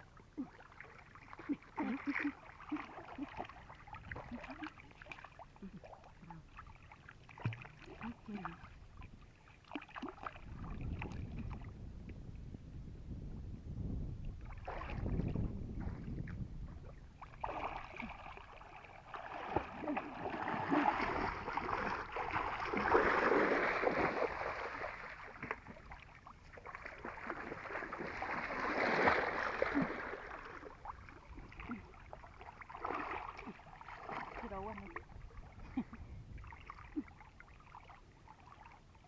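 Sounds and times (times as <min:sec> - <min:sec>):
water sloshing and splashing: 0:00.0 - 0:11.8, 0:14.2 - 0:39.0.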